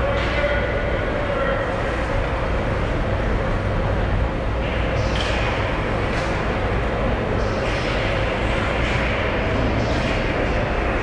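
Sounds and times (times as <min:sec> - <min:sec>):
arena noise with low rumble: 0:00.0 - 0:11.0.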